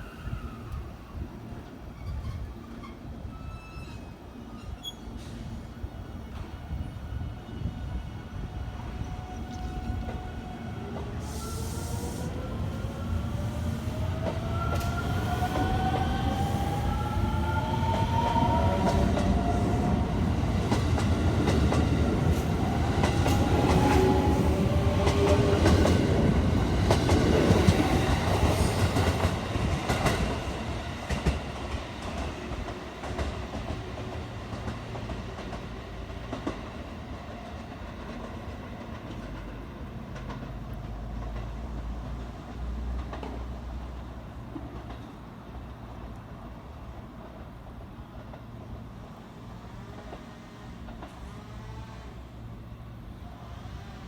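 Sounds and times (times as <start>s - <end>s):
train rolling with rail clatter: 0.0s - 54.0s.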